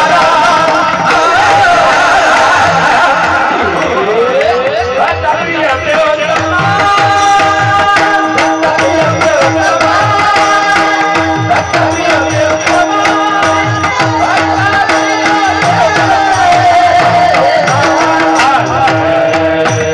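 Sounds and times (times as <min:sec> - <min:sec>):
devotional singing: 0:00.0 - 0:19.9
hand drum rhythm: 0:00.0 - 0:19.9.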